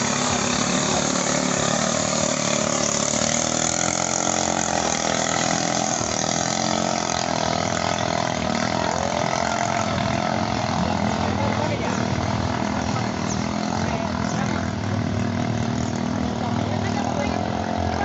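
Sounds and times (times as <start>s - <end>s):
small boat engines droning: 0.0s - 18.0s.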